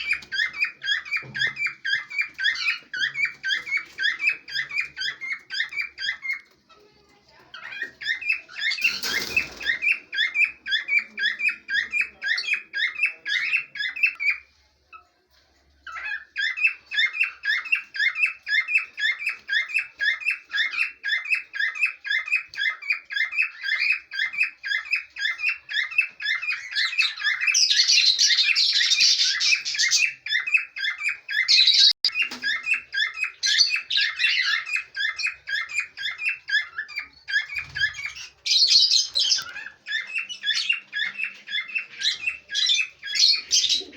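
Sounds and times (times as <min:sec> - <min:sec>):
parrots chirping: 0:00.0 - 0:14.5, 0:15.8 - 0:43.9.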